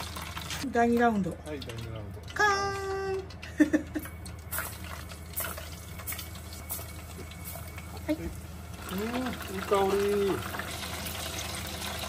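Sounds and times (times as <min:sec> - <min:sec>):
chicken deep-frying in oil: 0:00.0 - 0:03.4, 0:04.0 - 0:12.0.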